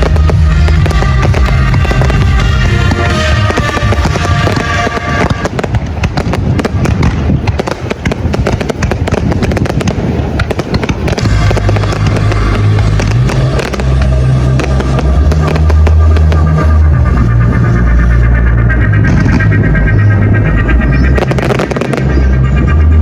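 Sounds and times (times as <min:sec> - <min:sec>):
fireworks crackling bangs: 0:00.0 - 0:18.1, 0:19.1 - 0:23.0
music with heavy bass: 0:00.0 - 0:23.0.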